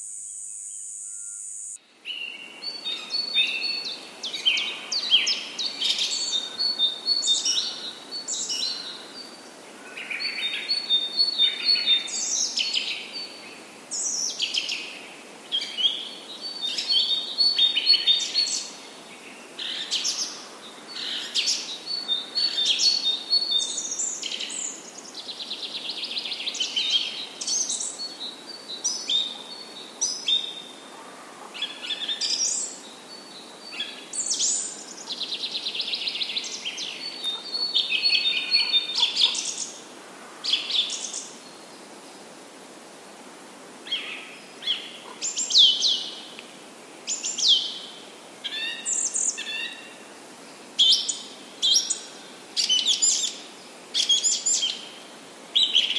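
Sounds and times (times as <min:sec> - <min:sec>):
songbirds singing and chirping: 0:00.0 - 0:42.9, 0:43.8 - 0:55.9
background hiss: 0:00.0 - 0:55.9.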